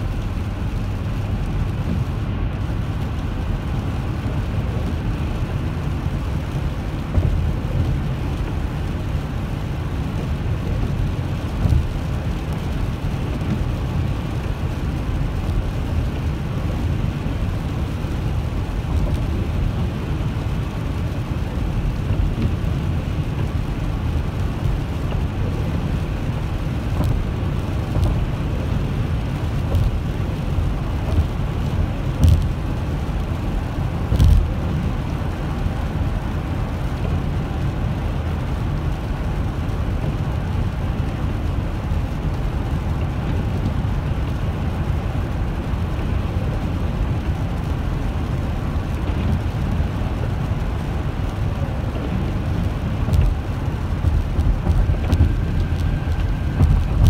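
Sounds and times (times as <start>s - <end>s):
car driving on wet road: 0.0s - 57.0s.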